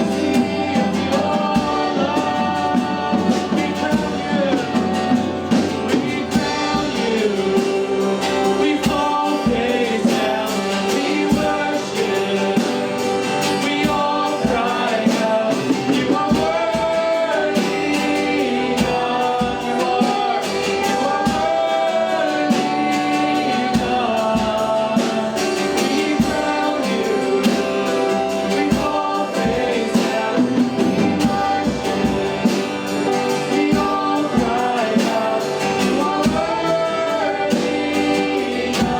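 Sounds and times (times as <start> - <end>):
band with steady beat: 0.0 - 38.9
congregation singing a hymn: 0.0 - 38.9.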